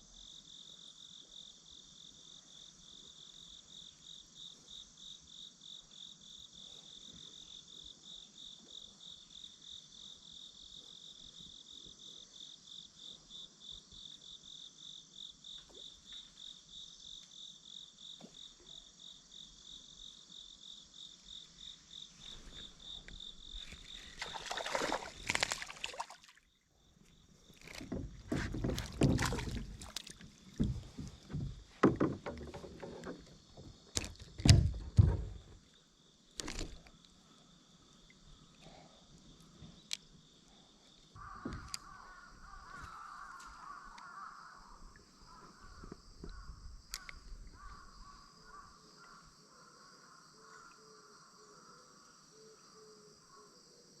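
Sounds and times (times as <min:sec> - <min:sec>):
insects chirping in pulsing trill: 0:00.0 - 0:54.0.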